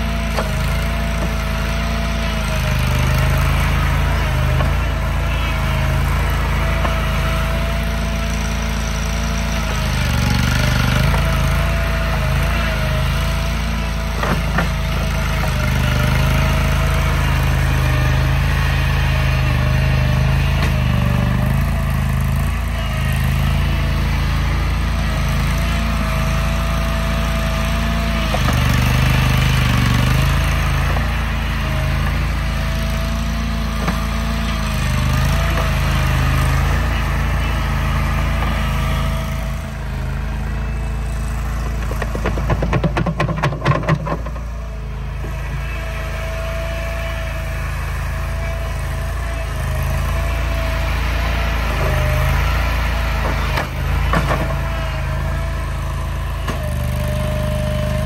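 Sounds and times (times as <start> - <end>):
engine running with low hum: 0.0 - 58.0.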